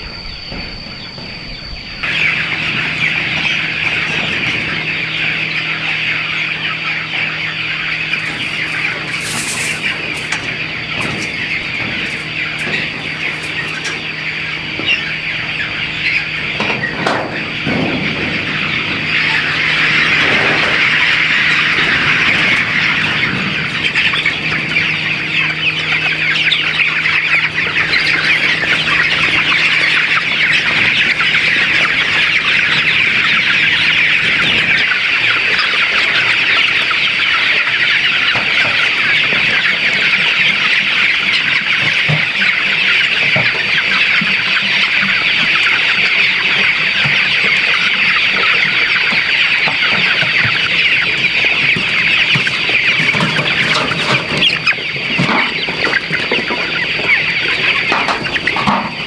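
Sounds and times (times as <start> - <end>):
flock of chickens clucking: 2.0 - 59.0.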